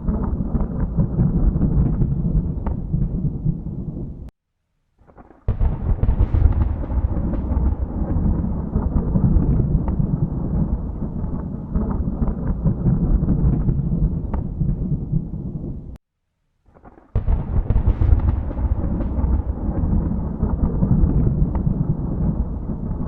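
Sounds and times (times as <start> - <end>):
thunder rumbling: 0.0 - 4.3, 5.2 - 16.0, 17.2 - 23.0.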